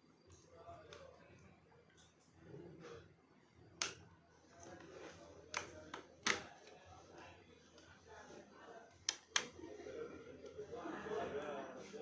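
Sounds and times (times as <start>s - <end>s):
faint room murmur: 0.0s - 12.0s.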